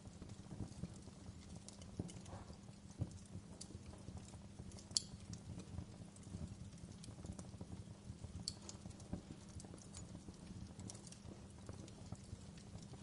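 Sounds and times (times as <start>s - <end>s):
wood fire crackling: 0.0s - 13.0s
sharp fire pops: 0.1s - 13.0s.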